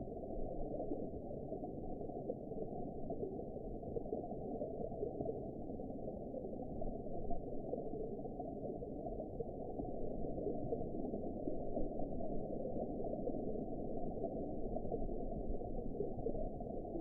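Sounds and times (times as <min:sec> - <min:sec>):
underwater water rush and gurgle: 0:00.0 - 0:17.0.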